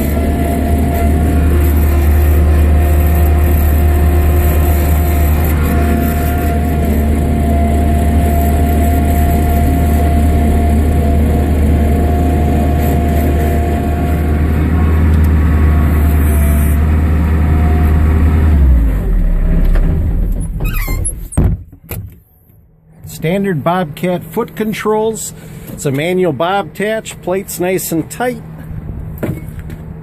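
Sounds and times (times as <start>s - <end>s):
diesel engine running: 0.0s - 21.4s, 23.0s - 30.0s.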